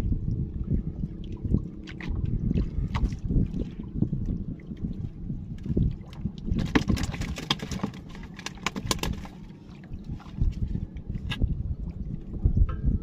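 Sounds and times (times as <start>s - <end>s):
water slapping boat hull: 0.0s - 12.5s
wind buffeting microphone: 0.0s - 13.0s.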